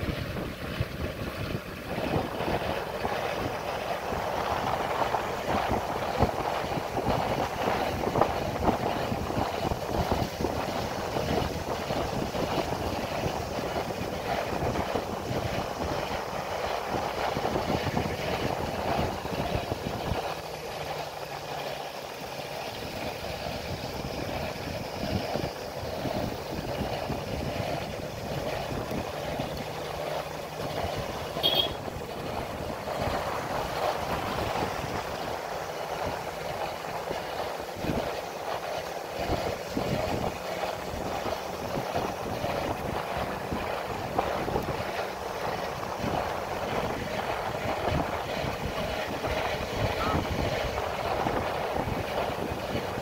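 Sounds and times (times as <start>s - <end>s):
motorcycle engine drone: 0.0s - 53.0s
tyres on road: 0.0s - 53.0s
wind buffeting microphone: 0.0s - 53.0s.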